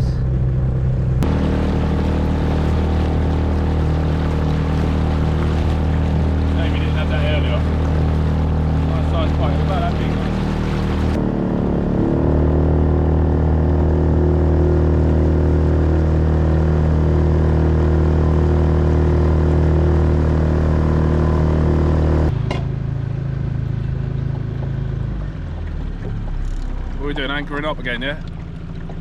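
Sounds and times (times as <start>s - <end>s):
small boat motor running: 0.0s - 29.0s.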